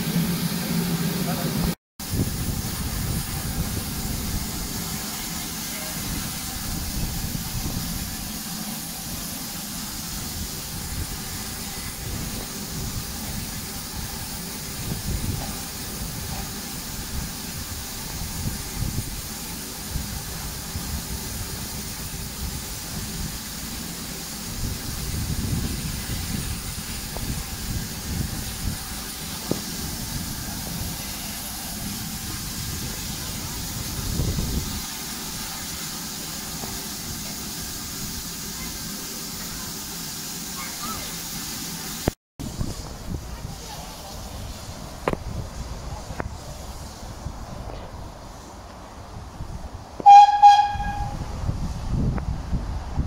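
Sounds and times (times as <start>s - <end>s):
steam locomotive hissing: 0.0s - 53.0s.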